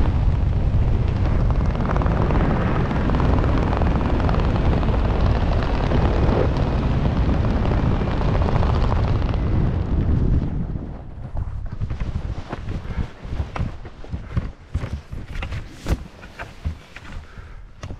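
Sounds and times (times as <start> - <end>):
wind rumbling on microphone: 0.0 - 17.9.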